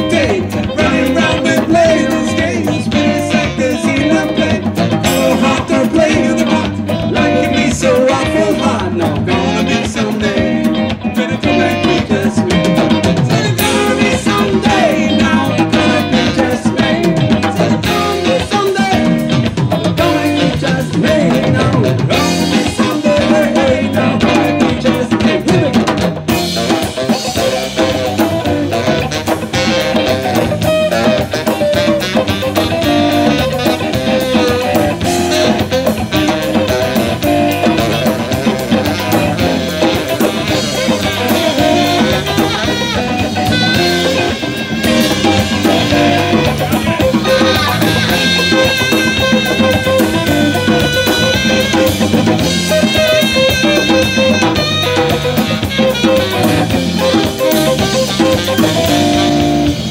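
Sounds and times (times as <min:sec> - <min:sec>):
djembe beat: 0:00.0 - 0:59.9
drum kit: 0:00.0 - 0:59.9
electric guitar: 0:00.0 - 0:59.9
wavering saxophone: 0:00.0 - 0:59.9.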